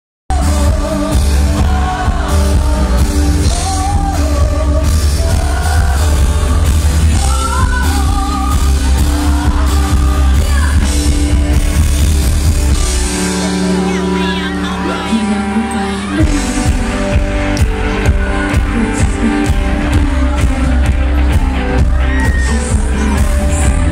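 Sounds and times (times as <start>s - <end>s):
woman singing into microphone: 0.3s - 11.3s, 13.7s - 23.9s
electric bass guitar: 0.3s - 23.9s
live rock-pop band: 0.3s - 23.9s.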